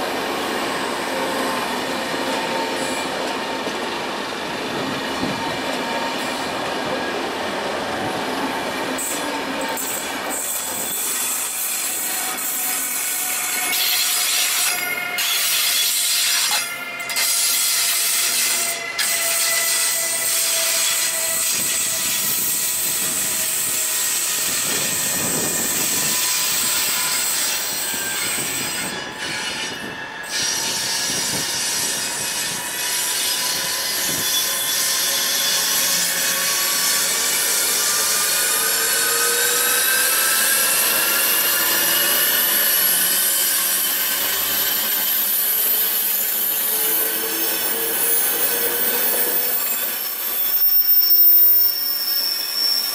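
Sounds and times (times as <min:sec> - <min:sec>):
train coaches rumbling: 0:00.0 - 0:19.0, 0:19.7 - 0:52.9
train wheels squealing: 0:00.0 - 0:52.9.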